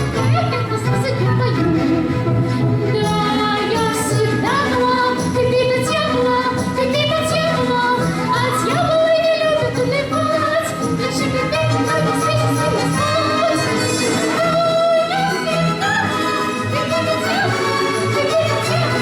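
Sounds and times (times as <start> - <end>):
instrumental accompaniment: 0.0 - 19.0
woman singing: 0.0 - 19.0.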